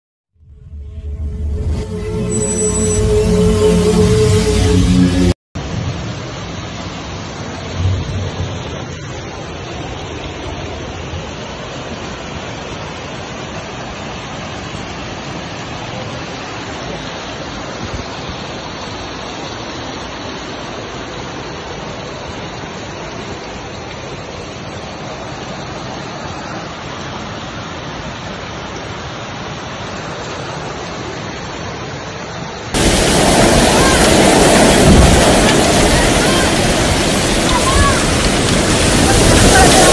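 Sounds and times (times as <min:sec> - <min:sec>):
floodwater rushing: 0:00.7 - 0:39.9.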